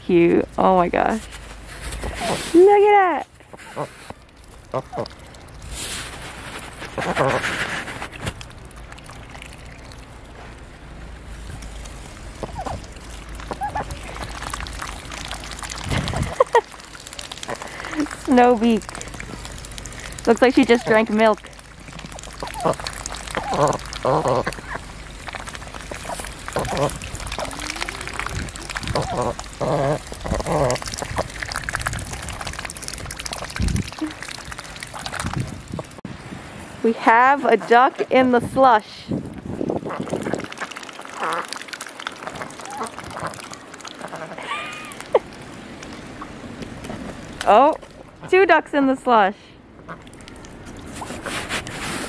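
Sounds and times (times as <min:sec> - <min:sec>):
ducks dabbling in slushy water: 0:00.0 - 0:52.0.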